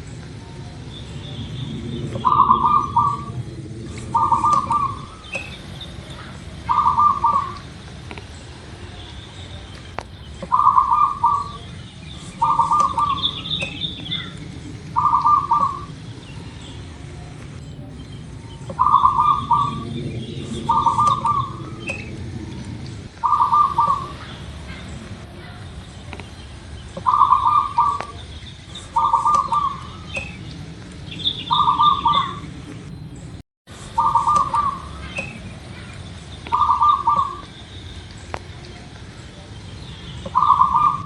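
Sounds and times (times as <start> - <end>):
dove cooing: 0.0 - 9.0, 10.2 - 26.2, 26.9 - 32.9, 33.8 - 37.6, 40.2 - 41.0
small birds chirping: 0.0 - 41.0.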